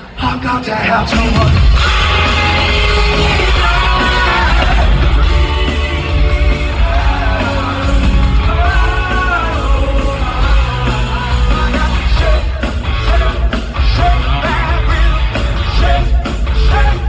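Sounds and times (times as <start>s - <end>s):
sliding sung vocal notes: 0.2s - 17.0s
rock band playing live: 0.7s - 17.0s.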